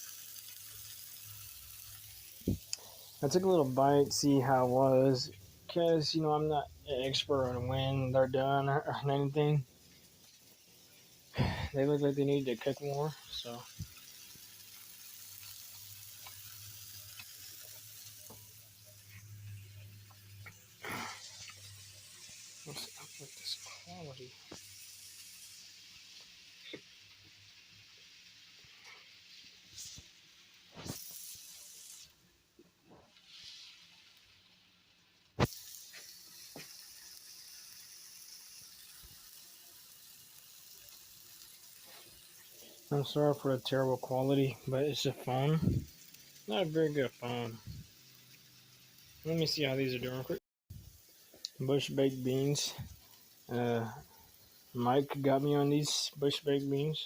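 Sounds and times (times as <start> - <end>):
patties sizzling: 0.0 - 57.0.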